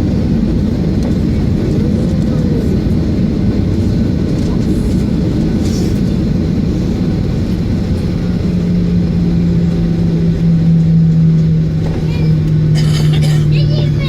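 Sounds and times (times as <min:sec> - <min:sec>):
aircraft low roar: 0:00.0 - 0:14.0
steady low hum: 0:00.0 - 0:14.0.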